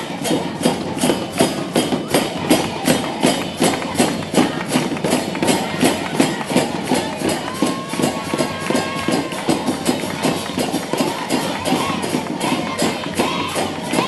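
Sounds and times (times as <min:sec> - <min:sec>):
music with percussive beat: 0:00.0 - 0:14.0.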